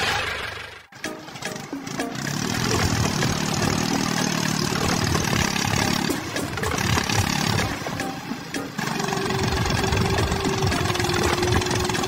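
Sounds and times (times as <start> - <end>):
toy bulldozer motor running: 0.0 - 12.0.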